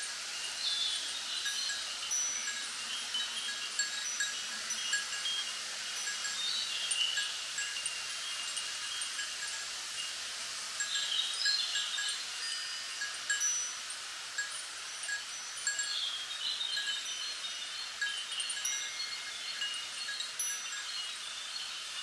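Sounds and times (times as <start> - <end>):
small bells tinkling: 0.0 - 22.0
wind rustling bamboo leaves: 0.0 - 22.0.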